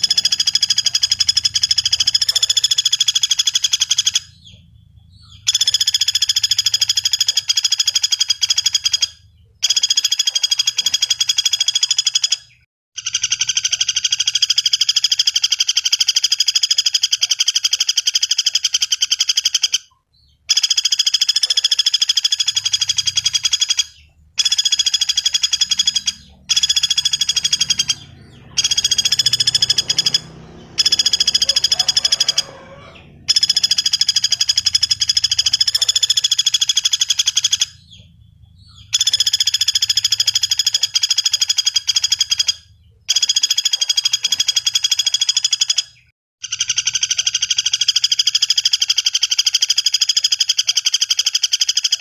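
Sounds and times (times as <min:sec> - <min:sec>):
woodpecker rattling calls: 0:00.0 - 0:52.0.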